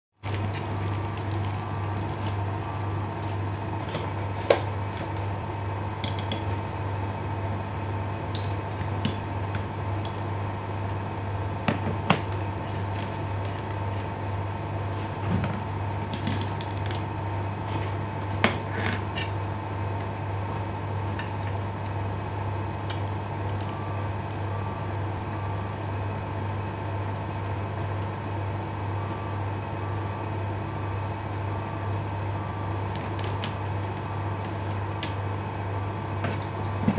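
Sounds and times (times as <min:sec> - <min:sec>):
steady low hum: 0:00.2 - 0:36.9.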